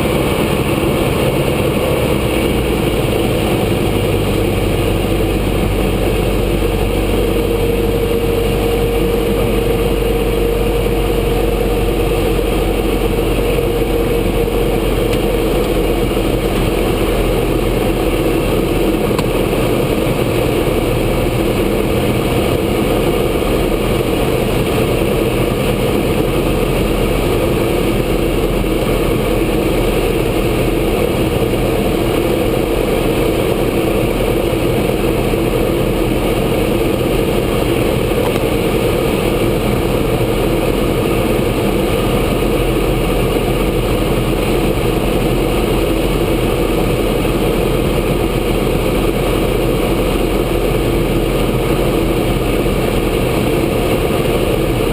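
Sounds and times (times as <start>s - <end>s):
propeller aircraft engine drone: 0.0s - 54.9s.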